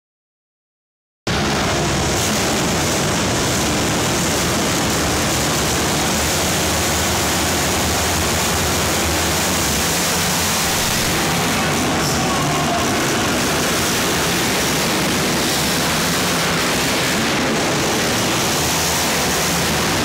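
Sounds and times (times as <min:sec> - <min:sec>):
racing engines running together: 0:01.3 - 0:20.0.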